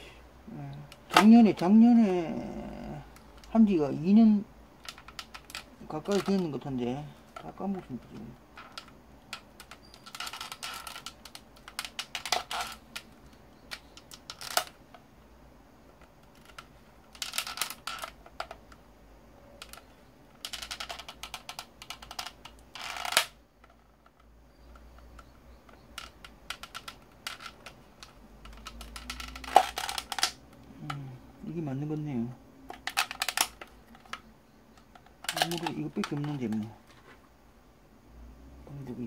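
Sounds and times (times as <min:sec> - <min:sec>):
small parts clicking and rattling: 0:00.7 - 0:01.8, 0:02.5 - 0:03.7, 0:04.7 - 0:15.1, 0:15.8 - 0:18.9, 0:19.6 - 0:31.3, 0:32.6 - 0:37.1.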